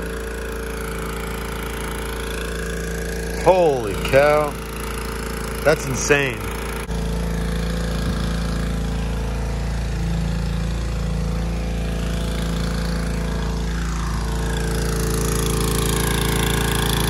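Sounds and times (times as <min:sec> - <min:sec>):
pressure washer running: 0:00.0 - 0:17.0.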